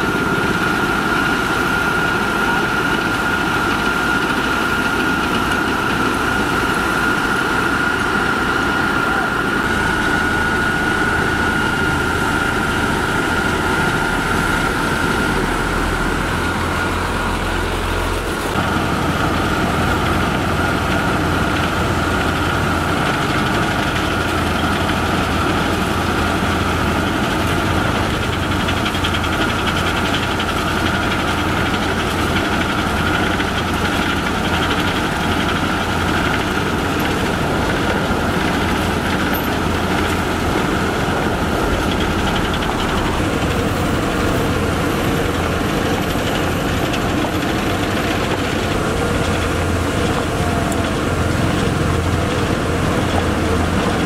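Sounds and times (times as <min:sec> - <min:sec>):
diesel engine drone: 0:00.0 - 0:54.0
high machine whine: 0:00.0 - 0:54.0.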